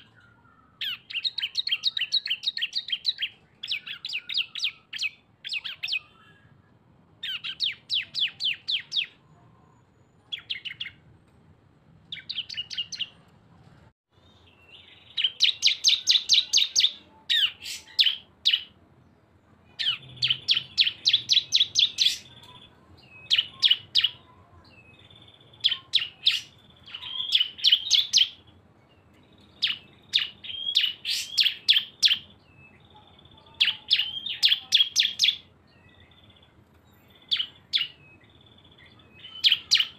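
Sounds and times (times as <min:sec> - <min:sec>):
birds chattering song: 0:00.0 - 0:11.1, 0:12.1 - 0:13.3, 0:14.1 - 0:39.9.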